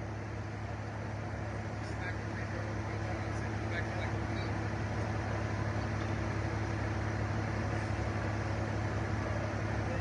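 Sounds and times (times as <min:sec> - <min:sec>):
engine idling hum: 0:00.0 - 0:10.0
outdoor noise: 0:00.0 - 0:10.0.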